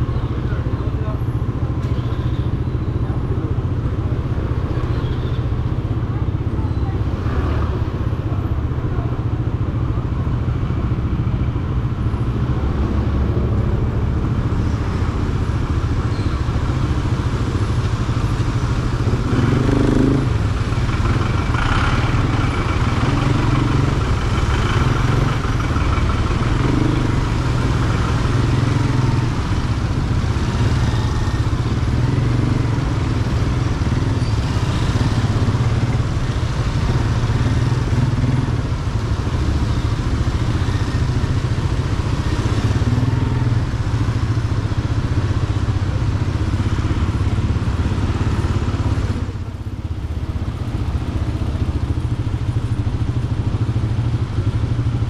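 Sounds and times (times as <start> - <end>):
motorcycle engine running: 0.0 - 55.0
surrounding traffic: 0.0 - 55.0.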